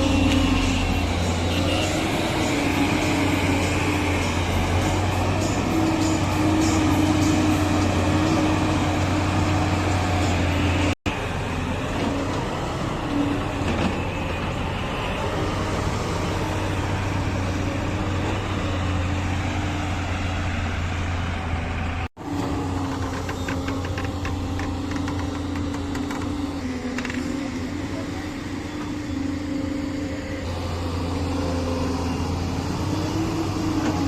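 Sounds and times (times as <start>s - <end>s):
diesel engine humming: 0.0s - 34.0s.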